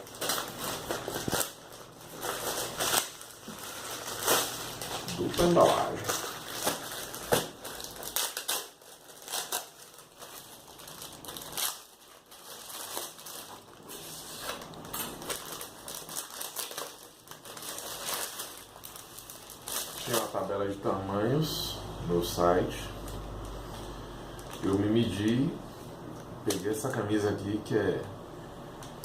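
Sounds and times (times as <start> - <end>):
plastic packaging crinkling: 0.0 - 21.4, 23.0 - 25.6.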